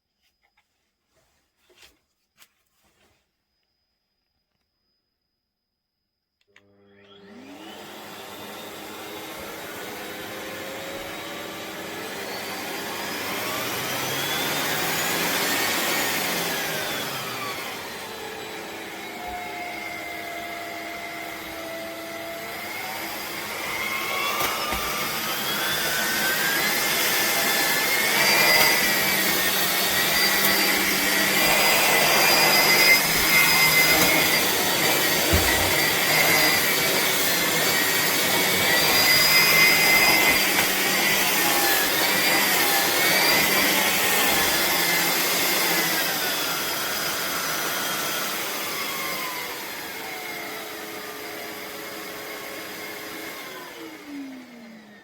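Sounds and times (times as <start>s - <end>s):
vacuum cleaner motor whine: 6.4s - 55.0s.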